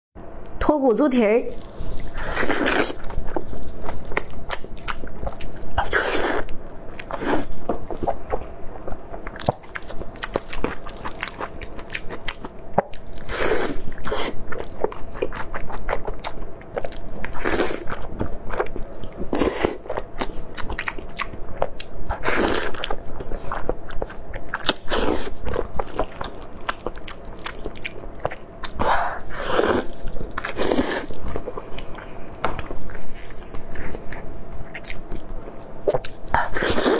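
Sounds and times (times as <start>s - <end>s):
chewing sticky food: 1.5s - 36.9s.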